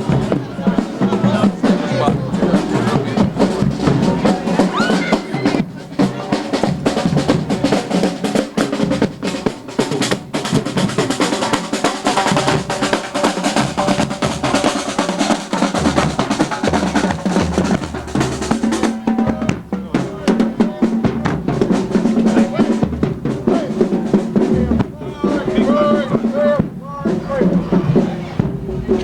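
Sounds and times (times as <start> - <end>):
bass drum: 0.0 - 29.0
held instrument notes: 0.0 - 29.0
snare drum marching beat: 0.0 - 29.0.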